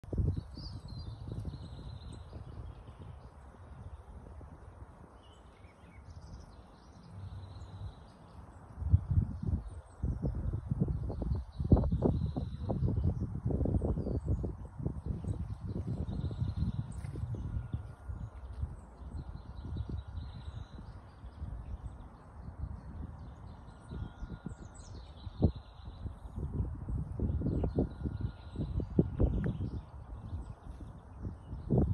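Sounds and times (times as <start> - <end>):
low microphone rumble: 0.0 - 31.9
small birds chirping: 0.1 - 31.9.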